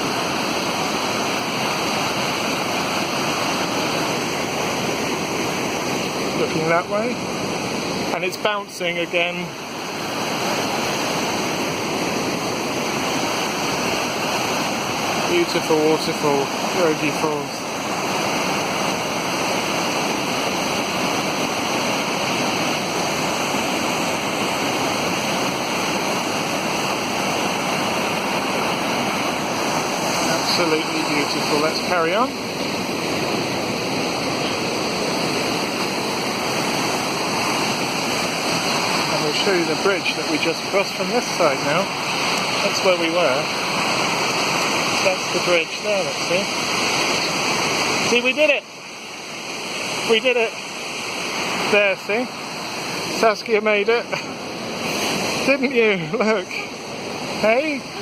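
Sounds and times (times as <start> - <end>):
large waterfall rushing: 0.0 - 58.0
river flowing: 0.0 - 58.0.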